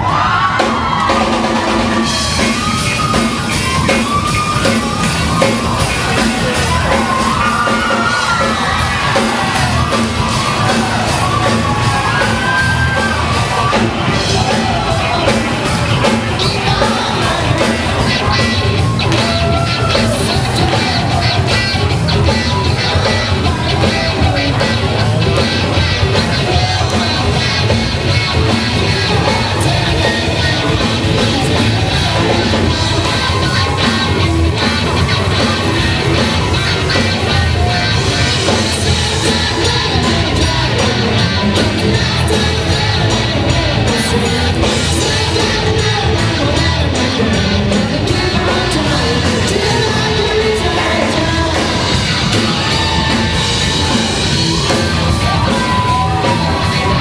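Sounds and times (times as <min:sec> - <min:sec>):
electric bass: 0:00.0 - 0:57.0
electric guitar: 0:00.0 - 0:57.0
person singing: 0:00.0 - 0:57.0.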